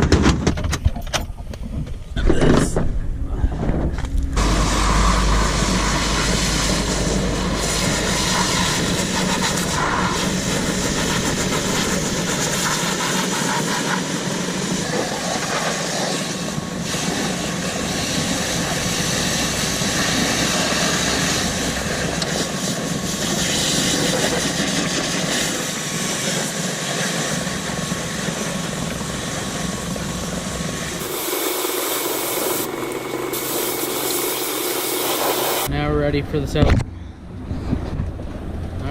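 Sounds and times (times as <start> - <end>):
pressure washer engine running: 4.3 - 35.7
pressure washer jet hissing: 4.4 - 35.7.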